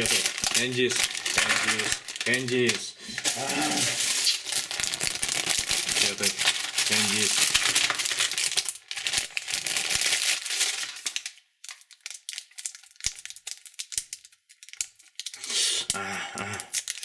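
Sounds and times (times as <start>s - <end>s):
candy wrapper crumpling and tearing: 0.0s - 17.0s.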